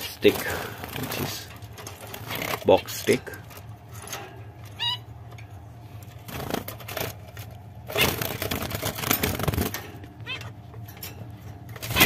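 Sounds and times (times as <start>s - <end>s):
rustling and scraping nesting material: 0.0s - 4.6s, 5.5s - 12.0s.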